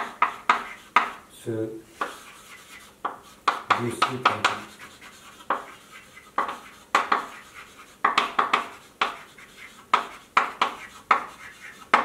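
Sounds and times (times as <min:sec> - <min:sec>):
chalk tapping and scratching: 0:00.0 - 0:01.3, 0:01.9 - 0:12.0.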